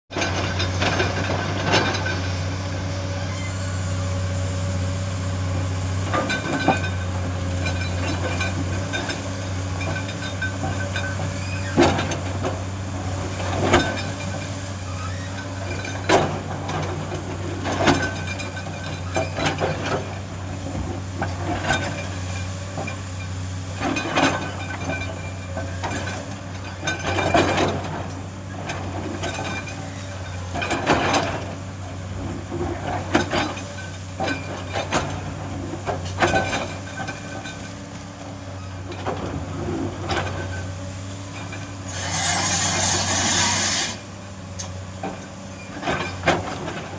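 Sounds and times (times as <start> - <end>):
construction machine engine running: 0.2 - 46.9.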